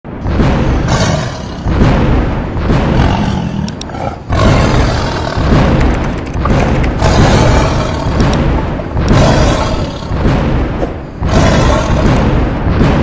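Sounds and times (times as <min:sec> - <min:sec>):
deep booms and roaring rumbles: 0:00.1 - 0:13.0.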